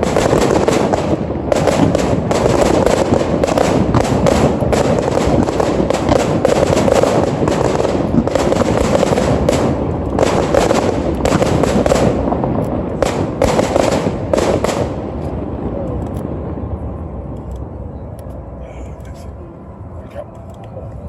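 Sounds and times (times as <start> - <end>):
fireworks bangs and crackles: 0.0 - 17.4.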